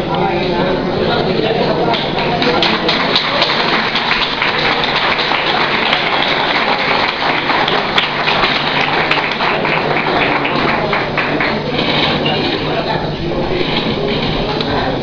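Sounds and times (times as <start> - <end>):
busy hall noise: 0.0 - 15.0.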